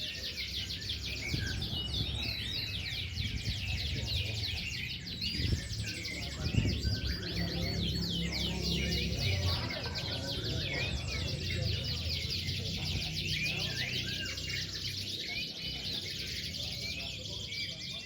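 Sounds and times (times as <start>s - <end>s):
canaries singing: 0.0s - 18.0s.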